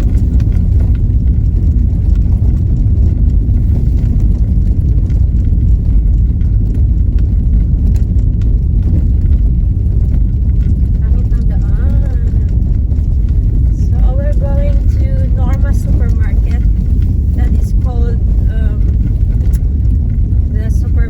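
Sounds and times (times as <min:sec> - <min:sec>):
car tyres and engine rumbling: 0:00.0 - 0:21.0.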